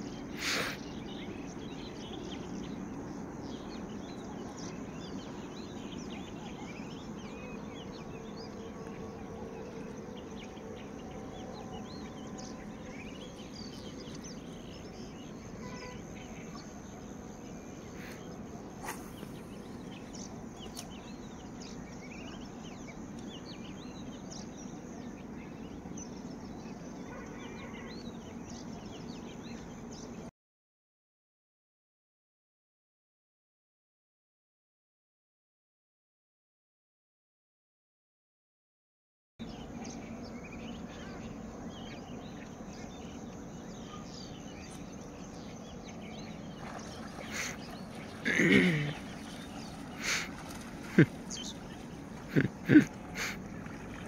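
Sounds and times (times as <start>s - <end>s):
small birds chirping: 0.0s - 30.3s, 39.4s - 54.0s.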